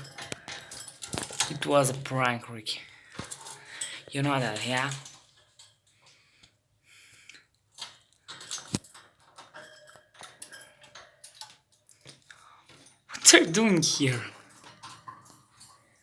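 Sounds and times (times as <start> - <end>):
parrot rattling its cage: 0.0 - 1.9, 3.1 - 6.1, 7.7 - 16.0.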